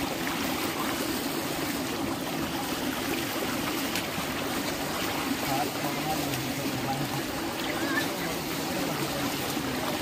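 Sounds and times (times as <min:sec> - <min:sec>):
river water rushing and lapping: 0:00.0 - 0:10.0.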